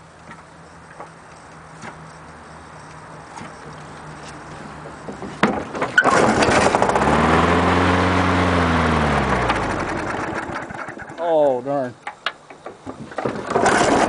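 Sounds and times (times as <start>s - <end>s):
lawn mower engine starting and running: 0.0s - 14.0s.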